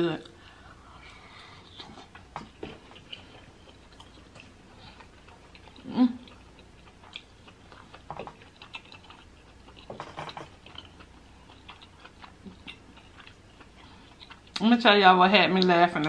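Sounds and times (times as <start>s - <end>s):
person chewing food: 0.2s - 14.6s.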